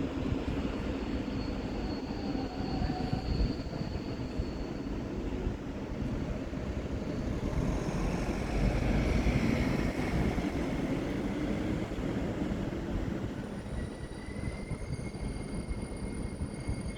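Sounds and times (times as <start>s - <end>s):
freight train rumbling on rails: 0.0s - 16.9s
train wheels squealing: 0.0s - 16.9s.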